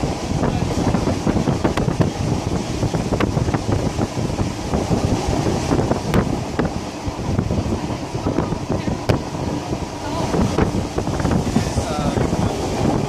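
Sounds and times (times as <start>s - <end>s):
train running rumble: 0.0s - 13.0s
wind buffeting microphone: 0.0s - 13.0s.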